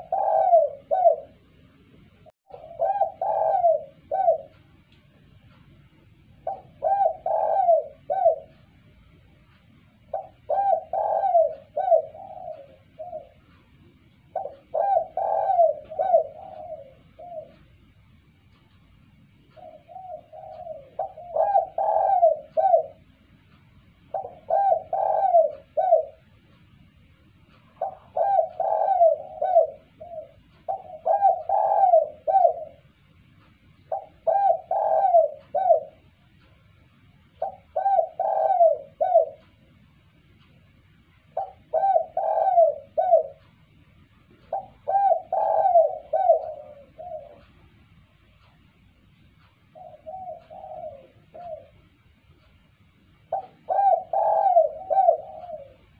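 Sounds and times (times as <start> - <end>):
dove cooing: 0.0 - 18.6, 19.4 - 23.3, 24.0 - 26.5, 27.4 - 33.1, 33.8 - 36.4, 37.1 - 39.8, 41.2 - 48.6, 49.4 - 52.1, 53.1 - 55.9.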